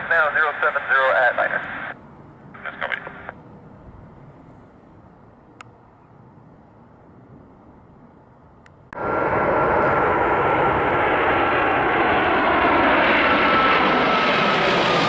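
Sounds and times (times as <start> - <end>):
jet engines roaring with whine: 0.0 - 15.0.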